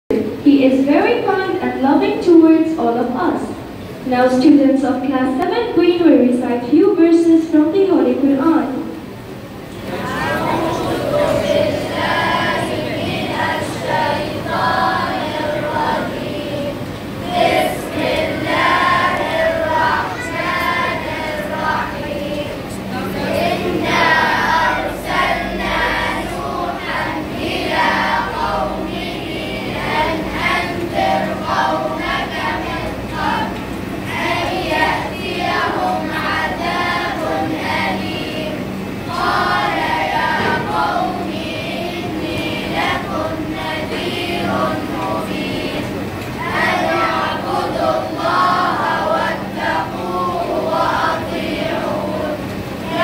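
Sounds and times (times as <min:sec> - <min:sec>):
children chanting melodically: 0:09.8 - 0:53.0.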